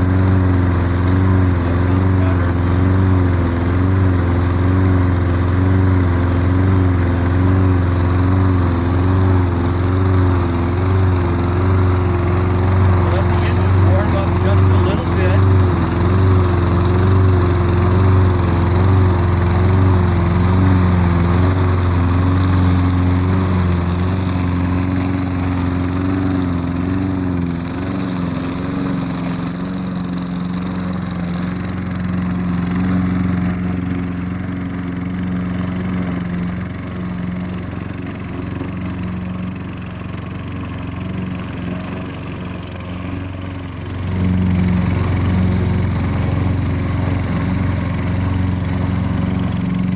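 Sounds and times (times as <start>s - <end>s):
lawn mower engine running: 0.0s - 49.9s.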